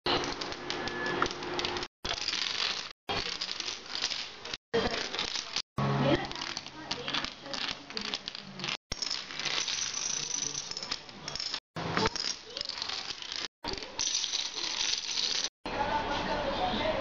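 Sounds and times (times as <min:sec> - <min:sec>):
dominoes toppling and clattering: 0:00.1 - 0:15.5.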